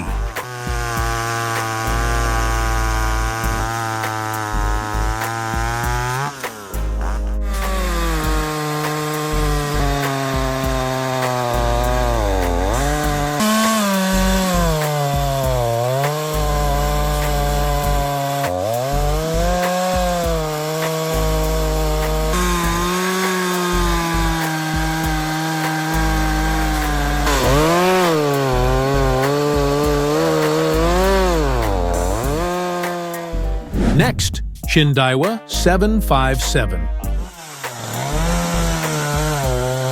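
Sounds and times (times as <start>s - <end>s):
chainsaw cutting wood: 0.0s - 33.8s, 36.5s - 39.9s.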